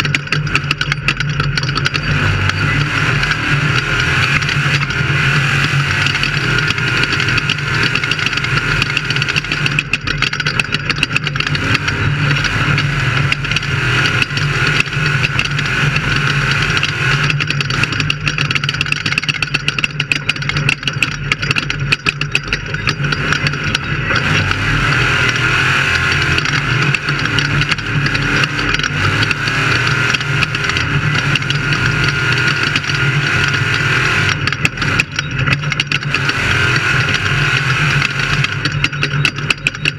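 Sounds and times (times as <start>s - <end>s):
knocks and rattles: 0.0s - 39.9s
race car engine running hard: 0.0s - 39.9s.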